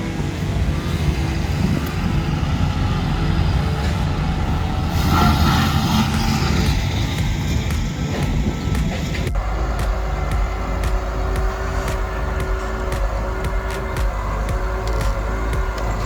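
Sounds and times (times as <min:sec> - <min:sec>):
diesel machinery rumbling: 0:00.0 - 0:16.0
harsh mid-range mechanical sound: 0:00.0 - 0:16.0.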